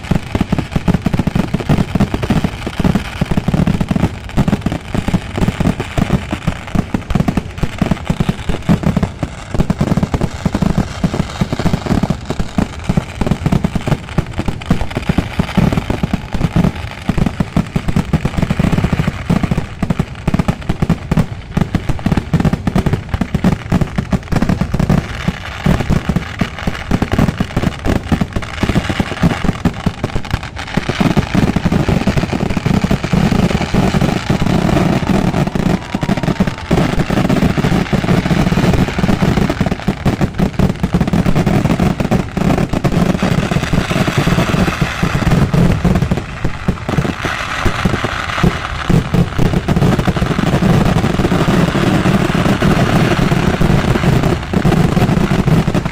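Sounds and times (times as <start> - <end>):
rapid firecracker bangs: 0.0 - 55.9.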